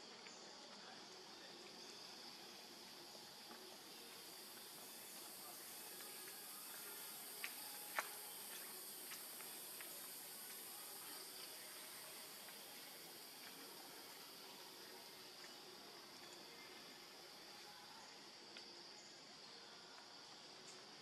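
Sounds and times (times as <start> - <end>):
high insect drone: 0.0 - 21.0
soft hiss: 0.0 - 21.0.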